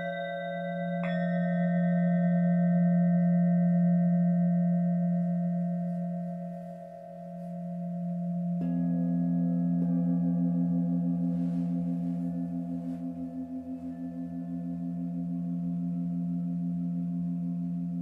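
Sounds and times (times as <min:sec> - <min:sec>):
higher singing bowl struck: 0:00.0 - 0:18.0
low singing bowl tone: 0:00.0 - 0:18.0.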